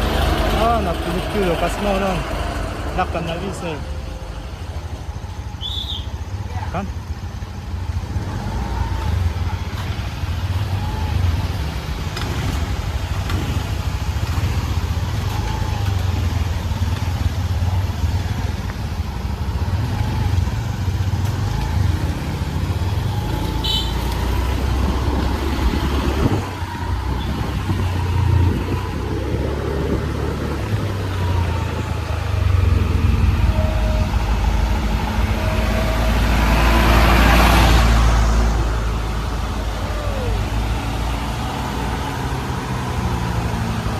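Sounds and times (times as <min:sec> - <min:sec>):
vehicle engine rumble: 0:00.0 - 0:43.9.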